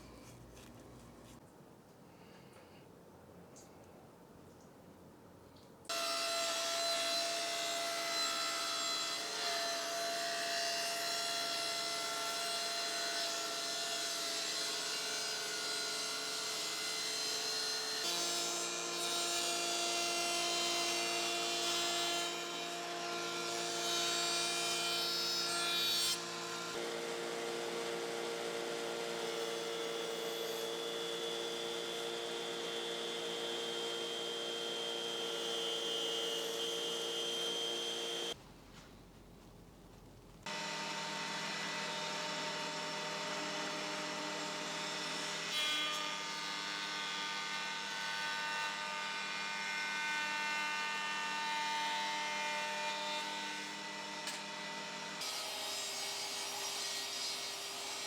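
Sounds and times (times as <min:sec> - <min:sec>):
power saw cutting wood: 0:05.9 - 0:38.4, 0:40.5 - 0:58.0.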